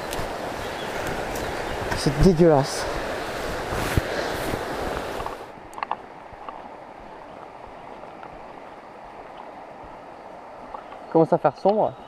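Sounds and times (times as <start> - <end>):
wind buffeting camera: 0.0 - 11.1
river flowing: 0.0 - 12.0.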